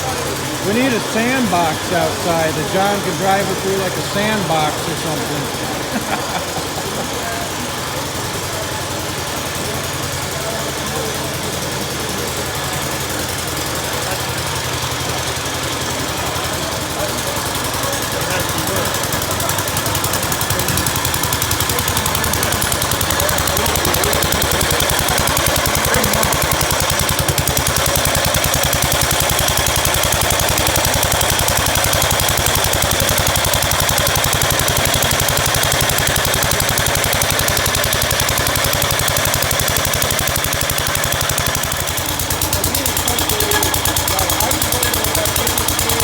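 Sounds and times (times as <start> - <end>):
tractor engine chugging: 0.0 - 46.0.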